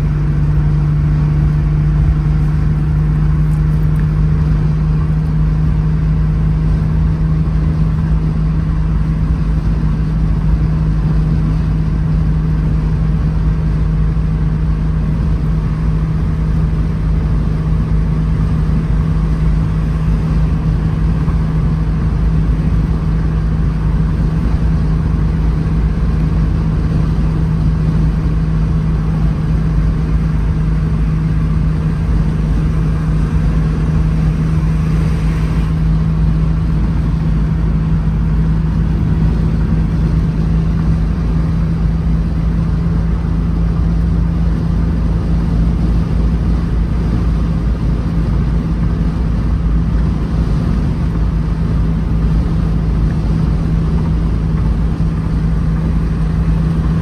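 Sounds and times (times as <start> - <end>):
car engine drone in cabin: 0.0 - 57.0
tyre and road rumble: 0.0 - 57.0.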